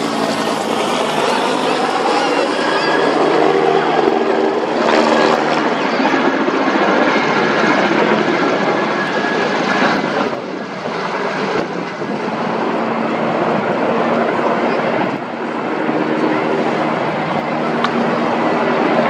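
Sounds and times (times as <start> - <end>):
helicopter rotors and turbines: 0.0 - 19.0.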